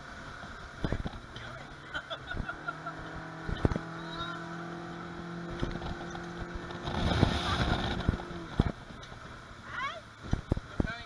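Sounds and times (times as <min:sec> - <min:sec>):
motorboat engine running: 0:00.0 - 0:11.0
water and wind rushing: 0:00.0 - 0:11.0.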